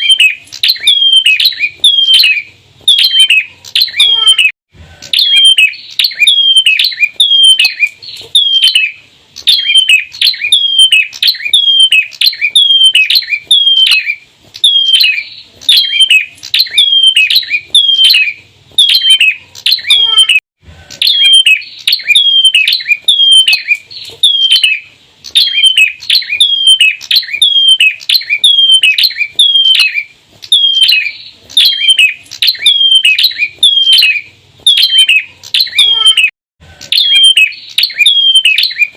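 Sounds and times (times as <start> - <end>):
bird calling rapid high chirps: 0.0 - 20.4, 21.0 - 38.9.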